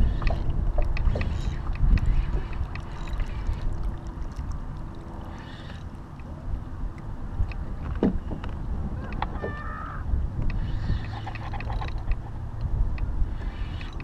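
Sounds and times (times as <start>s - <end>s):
water lapping against hull: 0.0s - 9.8s, 10.4s - 14.0s
wind rumble on microphone: 0.0s - 14.0s.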